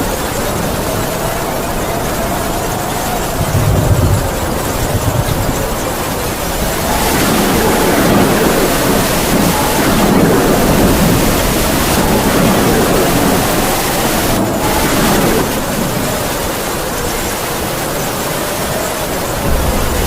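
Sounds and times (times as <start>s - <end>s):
heavy rain falling: 0.0s - 20.0s
wind howling whistle: 0.0s - 20.0s.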